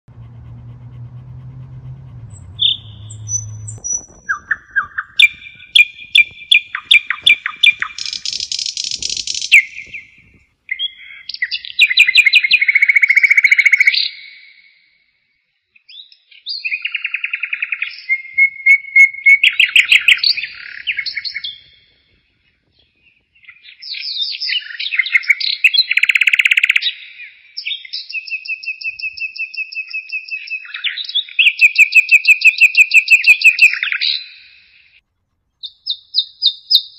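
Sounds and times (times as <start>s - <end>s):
nightingale singing: 2.3s - 14.5s, 15.9s - 21.9s, 22.8s - 34.6s, 35.6s - 36.9s.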